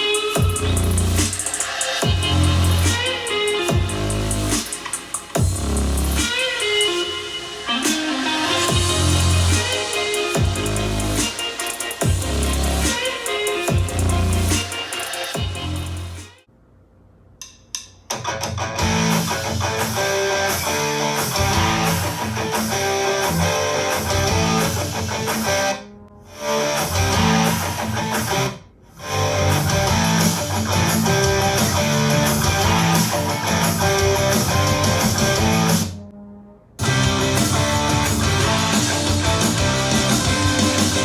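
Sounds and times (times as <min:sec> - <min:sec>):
rock music through a speaker: 0:00.0 - 0:16.4, 0:18.1 - 0:25.8, 0:26.4 - 0:36.0, 0:36.8 - 0:41.0.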